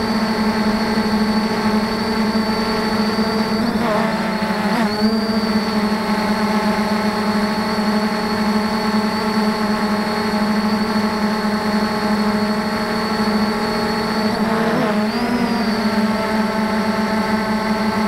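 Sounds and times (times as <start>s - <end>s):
drone motors whirring: 0.0s - 18.0s.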